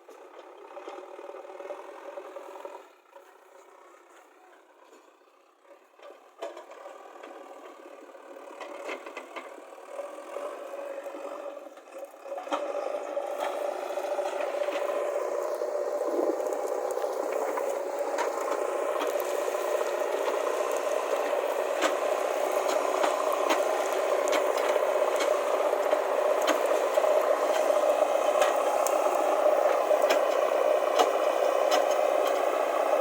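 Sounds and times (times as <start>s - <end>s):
backhoe loader engine: 0.0s - 33.0s.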